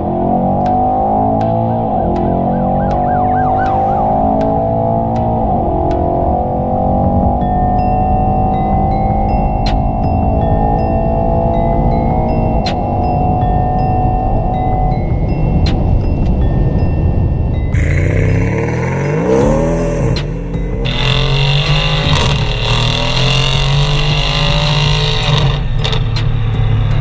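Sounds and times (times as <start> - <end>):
car engine accelerating hard: 0.0 - 15.0, 17.7 - 27.0.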